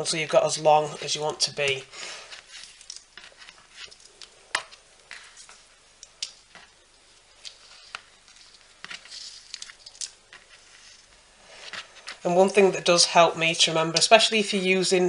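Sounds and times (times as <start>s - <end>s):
cord rustling: 0.0s - 12.6s.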